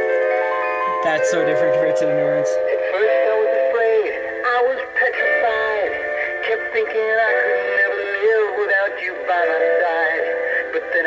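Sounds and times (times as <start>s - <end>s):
backing track through tinny speaker: 0.0s - 11.0s.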